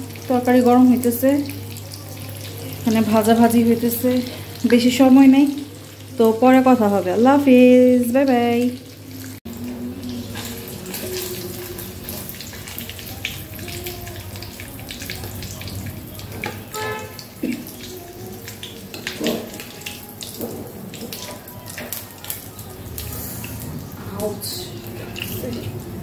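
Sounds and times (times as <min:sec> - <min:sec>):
oil sizzling and crackling: 0:00.0 - 0:26.0.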